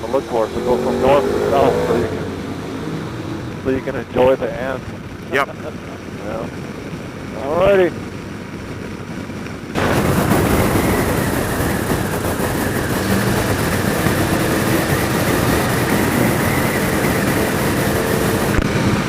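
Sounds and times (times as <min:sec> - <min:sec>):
wind rush on helmet microphone: 0:00.0 - 0:19.0
motorcycle engine running: 0:03.6 - 0:19.0.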